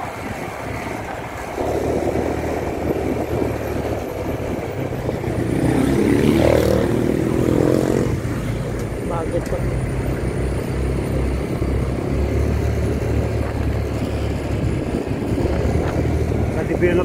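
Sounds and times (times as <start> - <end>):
motorcycle engine running: 0.0 - 17.0
motorcycles passing: 0.0 - 17.0
road and wind noise: 0.0 - 17.0.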